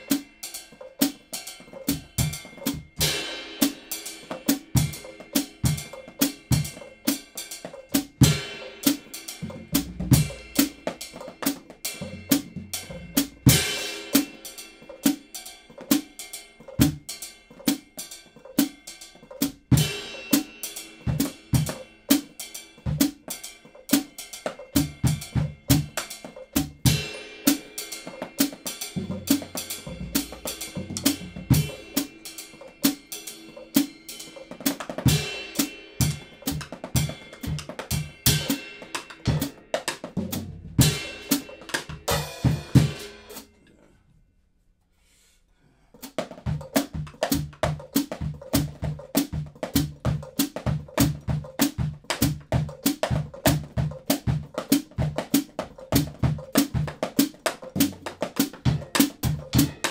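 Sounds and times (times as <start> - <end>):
drum kit groove: 0.0 - 43.6, 46.0 - 59.9.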